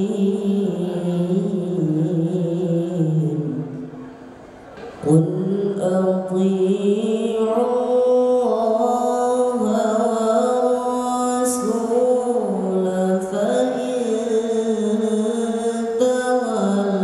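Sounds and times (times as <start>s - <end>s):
man reciting melodically: 0.0s - 3.8s, 5.0s - 17.0s.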